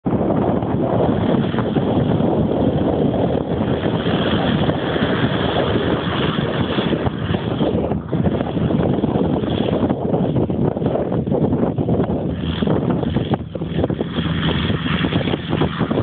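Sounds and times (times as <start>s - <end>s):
small plane engine running: 0.0s - 16.0s
wind buffeting microphone: 0.0s - 16.0s.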